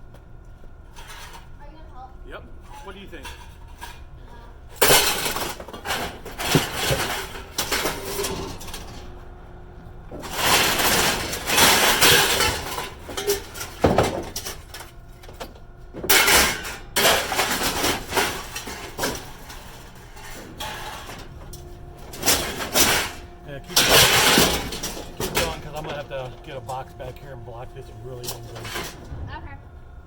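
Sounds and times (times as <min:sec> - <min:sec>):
scrap metal clanking and crashing: 0:02.6 - 0:29.7.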